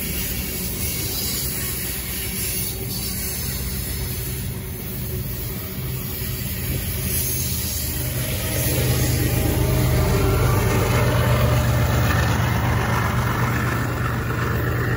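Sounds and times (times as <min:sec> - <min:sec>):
diesel locomotive engine: 0:00.0 - 0:14.9
freight train wheels rumbling: 0:00.0 - 0:14.9.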